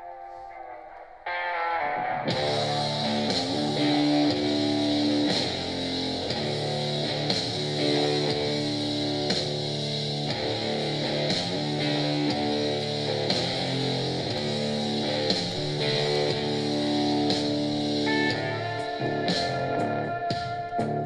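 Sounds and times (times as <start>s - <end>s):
guitar music through speaker: 0.0s - 21.0s.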